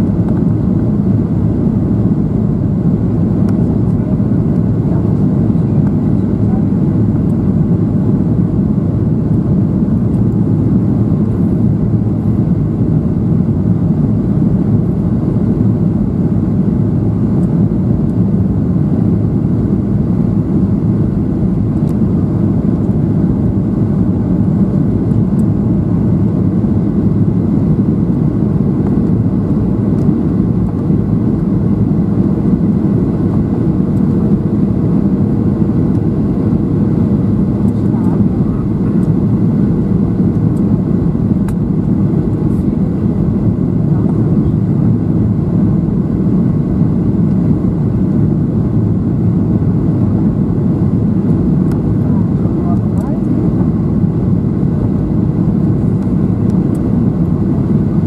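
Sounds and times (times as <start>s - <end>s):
airplane cabin engine roar: 0.0s - 58.0s.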